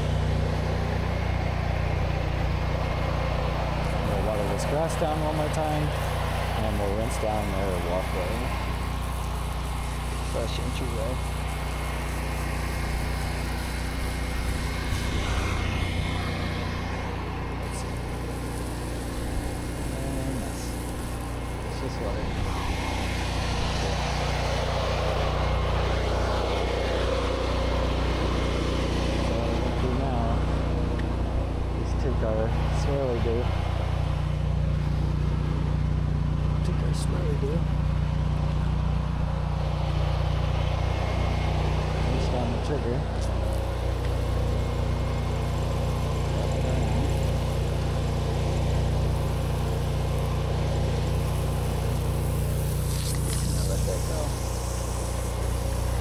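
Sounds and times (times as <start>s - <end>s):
pressure washer engine droning: 0.0s - 56.0s
water spraying hiss: 0.0s - 56.0s.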